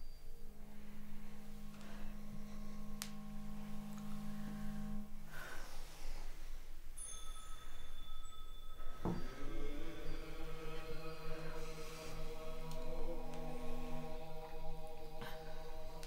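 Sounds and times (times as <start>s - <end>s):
high steady ringing tones: 0.0s - 5.4s, 6.8s - 14.4s
low steady hum with held tones: 0.0s - 16.0s.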